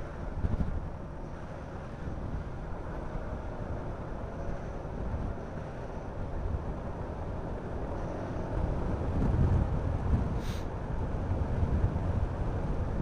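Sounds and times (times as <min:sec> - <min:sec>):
wind rush and road noise: 0:00.0 - 0:13.0.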